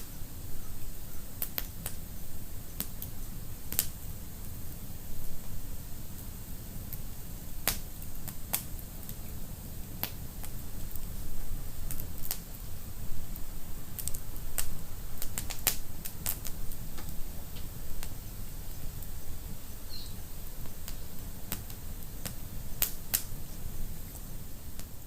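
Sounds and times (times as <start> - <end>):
faint fire crackles: 0.0 - 25.0
fire rumbling and hissing: 0.0 - 25.0.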